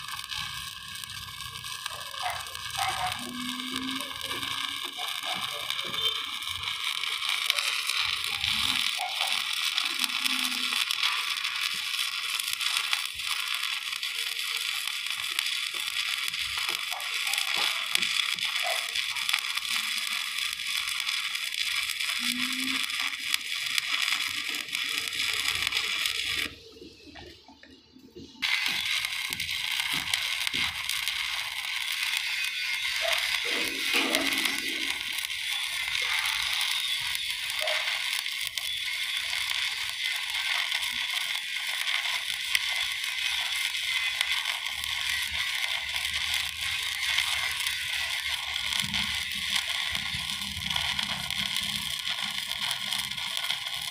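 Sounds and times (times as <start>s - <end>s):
welding arc crackling hiss: 0.0s - 53.9s.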